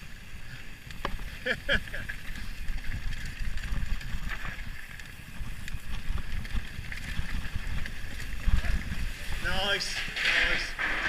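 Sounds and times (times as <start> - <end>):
bike rattling: 0.0 - 11.0
bike tyres rumbling over gravel: 0.0 - 11.0
wind buffeting microphone: 0.0 - 11.0.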